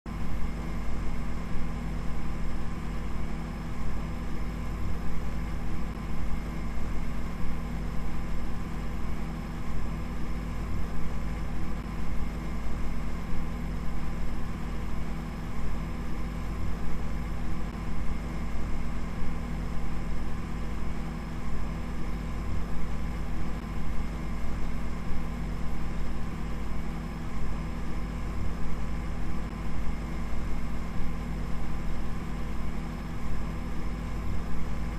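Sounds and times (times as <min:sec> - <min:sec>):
low machine hum: 0:00.1 - 0:34.9.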